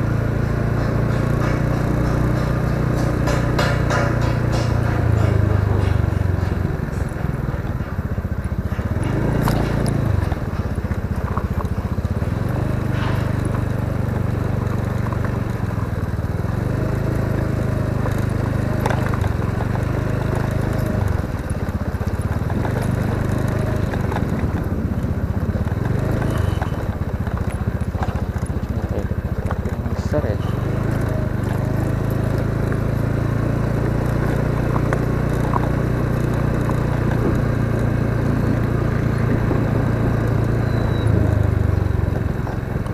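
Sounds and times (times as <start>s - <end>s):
scooter engine running: 0.0s - 42.9s.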